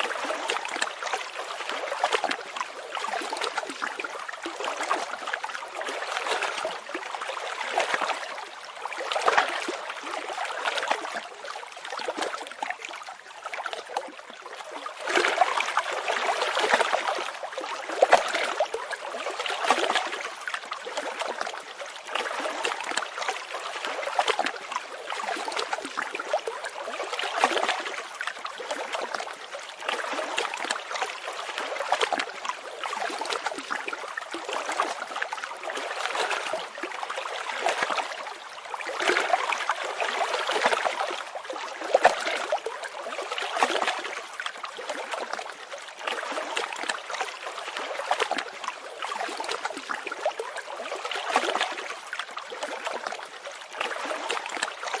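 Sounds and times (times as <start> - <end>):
stream trickling and gurgling: 0.0 - 55.0.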